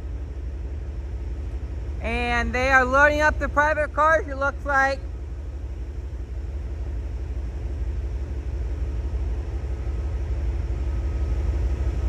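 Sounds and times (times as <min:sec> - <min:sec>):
diesel locomotives rumbling: 0:00.0 - 0:12.0
faint hum: 0:00.0 - 0:12.0.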